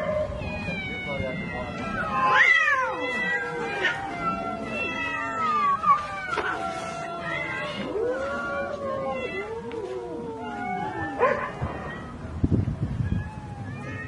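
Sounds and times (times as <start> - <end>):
many cats meowing: 0.0 - 14.0.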